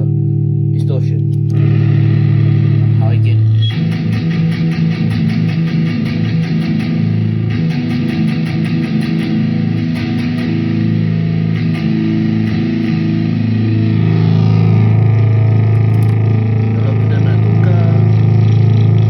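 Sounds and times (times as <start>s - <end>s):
distorted electric guitar riffing: 0.0s - 19.0s.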